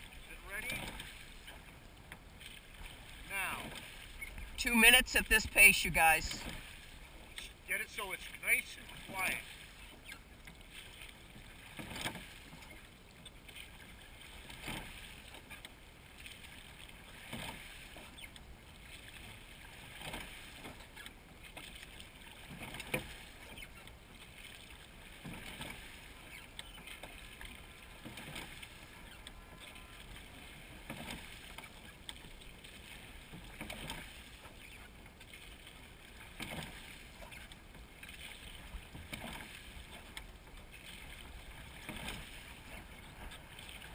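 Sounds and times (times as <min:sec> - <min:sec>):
oars knocking and splashing: 0:00.0 - 0:43.9.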